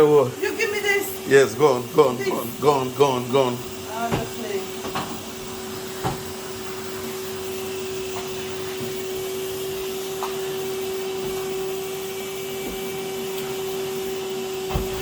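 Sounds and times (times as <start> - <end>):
vacuum cleaner whirring: 0.0 - 15.0.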